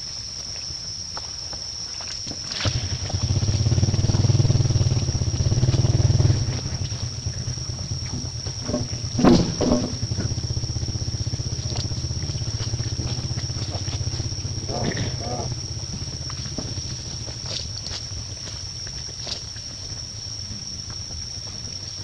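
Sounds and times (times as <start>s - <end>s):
engine humming: 2.6s - 22.0s.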